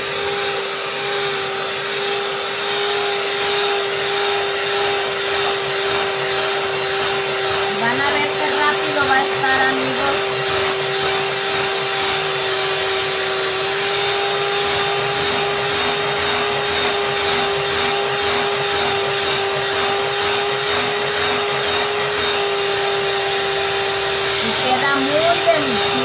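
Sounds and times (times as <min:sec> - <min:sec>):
electric hand mixer whine: 0:00.0 - 0:26.0.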